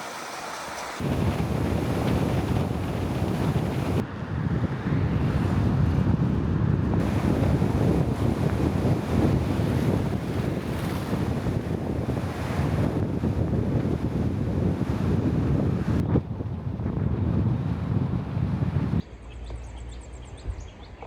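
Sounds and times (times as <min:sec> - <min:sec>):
wind buffeting microphone: 0:01.0 - 0:19.0.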